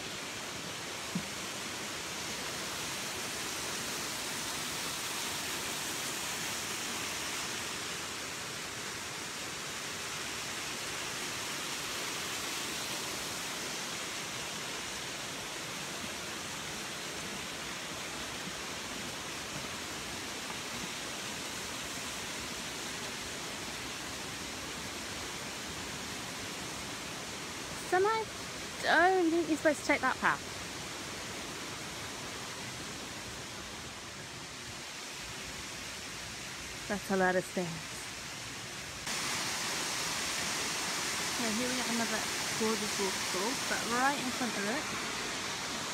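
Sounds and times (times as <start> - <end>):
waterfall and river rushing: 0.0 - 45.9.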